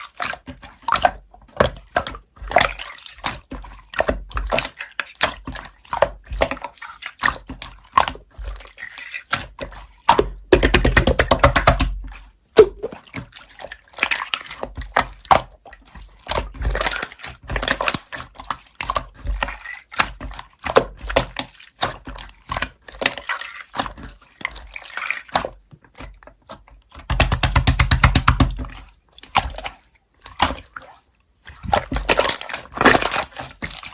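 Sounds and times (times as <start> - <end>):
slime squelching: 0.0 - 33.9.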